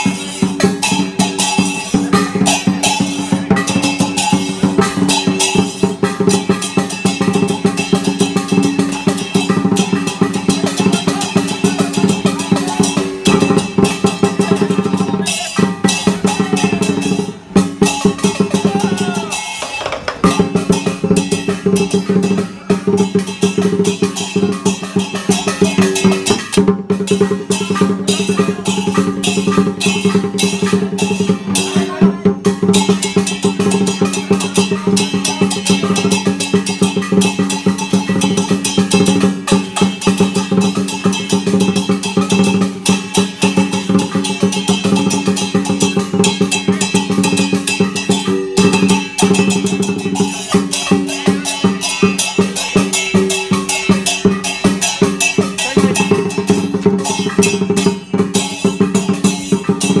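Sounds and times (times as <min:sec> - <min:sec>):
cymbals clashing: 0:00.0 - 1:00.0
drum fast roll: 0:00.0 - 1:00.0
gongs ringing: 0:00.0 - 1:00.0.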